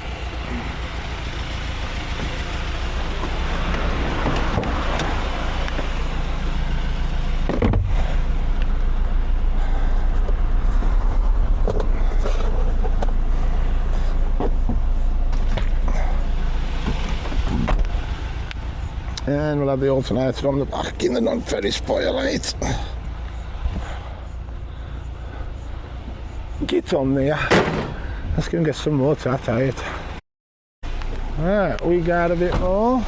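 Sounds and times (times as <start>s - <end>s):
truck engine running: 0.0s - 30.1s.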